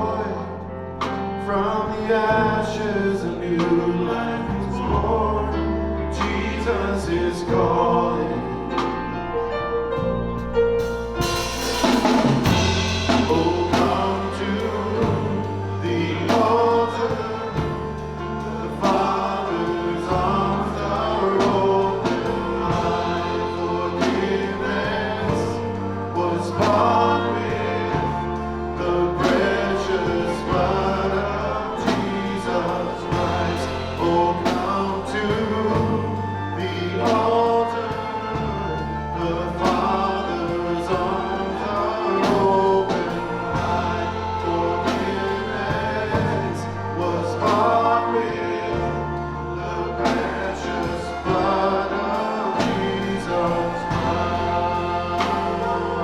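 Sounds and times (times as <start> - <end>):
bass notes: 0.0 - 56.0
worship band with singing: 0.0 - 56.0
drum kit beat: 10.0 - 39.0, 39.6 - 49.4, 50.0 - 56.0.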